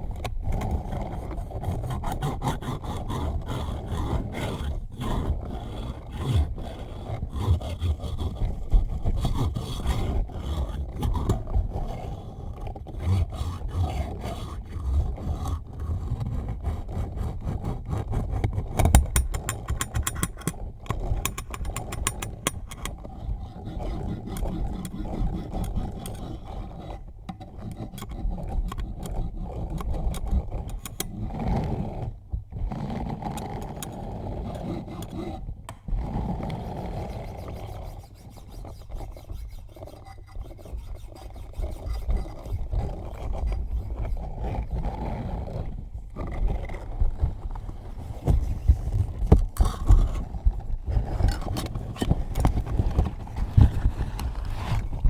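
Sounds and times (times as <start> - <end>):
rubbing on microphone: 0.1 - 55.0.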